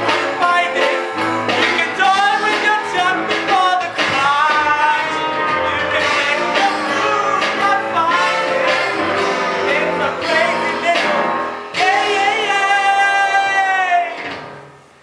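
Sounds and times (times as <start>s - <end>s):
musical theatre singing: 0.0s - 14.7s
band accompaniment: 0.0s - 15.0s.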